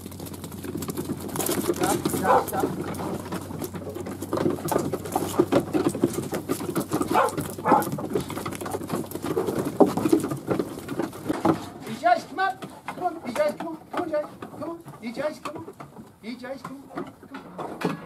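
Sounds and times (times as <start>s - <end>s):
sheep hooves pattering: 0.0s - 17.8s
small knocks: 0.2s - 18.0s.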